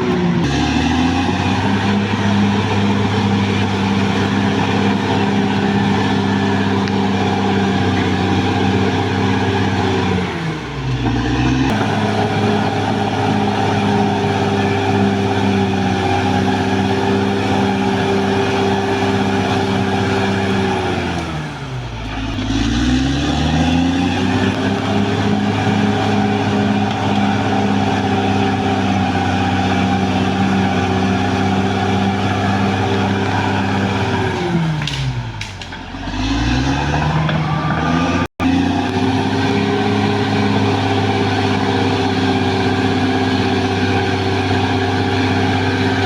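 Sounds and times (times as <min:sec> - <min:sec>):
bulldozer diesel engine at high revs: 0:00.0 - 0:46.0.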